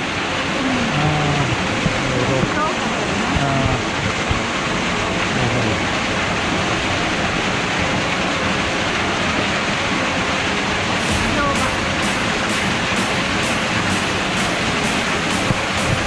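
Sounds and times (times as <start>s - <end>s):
waterfall splashing: 0.0s - 16.0s.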